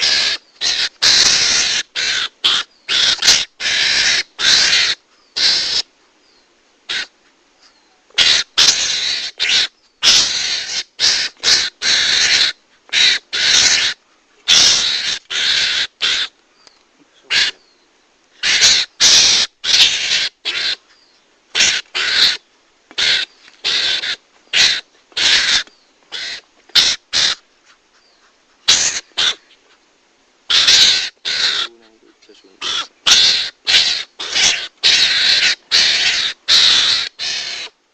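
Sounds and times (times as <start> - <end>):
mongoose raspy squeals: 0.0 - 5.9, 6.9 - 16.3, 17.3 - 17.6, 18.4 - 22.4, 23.0 - 27.4, 28.0 - 29.4, 30.5 - 37.8.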